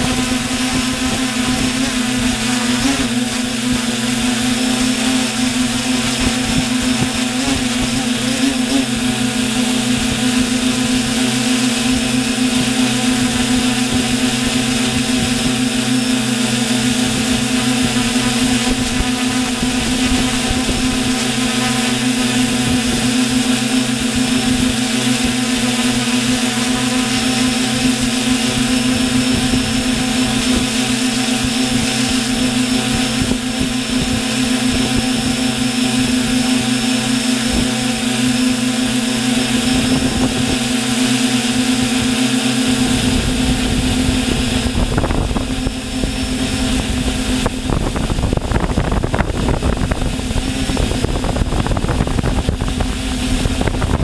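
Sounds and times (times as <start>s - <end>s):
drone propellers humming: 0.0s - 54.0s
wind buffeting microphone: 0.0s - 54.0s.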